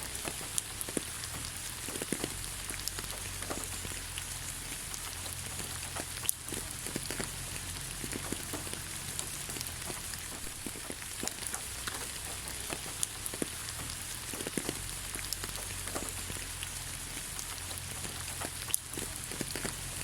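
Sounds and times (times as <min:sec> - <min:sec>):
rain falling on ground: 0:00.0 - 0:20.0.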